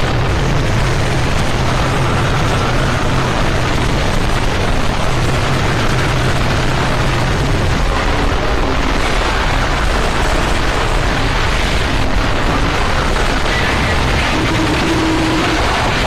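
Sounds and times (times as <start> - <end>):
loud distorted noise music: 0.0 - 16.0
low droning hum: 0.0 - 16.0.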